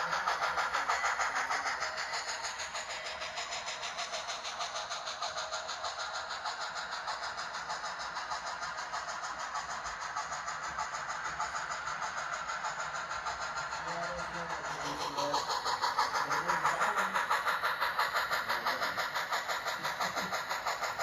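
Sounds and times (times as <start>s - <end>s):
steam locomotive exhaust chuffs: 0.0s - 21.0s.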